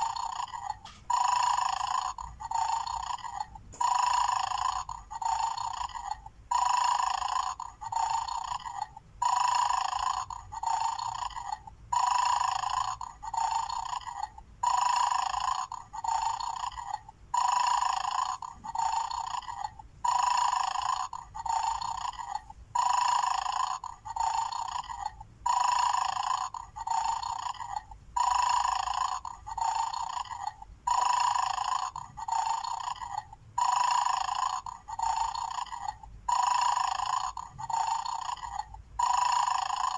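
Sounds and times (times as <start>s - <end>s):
electronic toy snoring: 0.0s - 39.9s.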